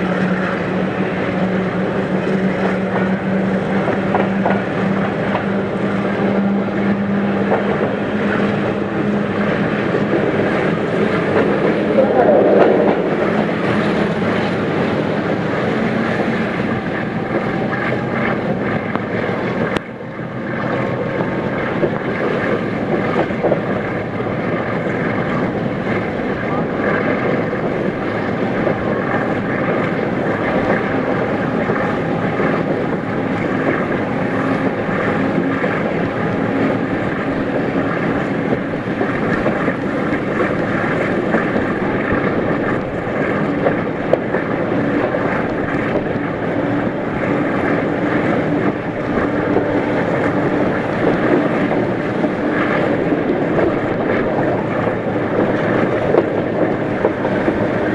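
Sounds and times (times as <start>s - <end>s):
moving train rumble: 0.0s - 57.9s
wind on microphone: 0.0s - 57.9s.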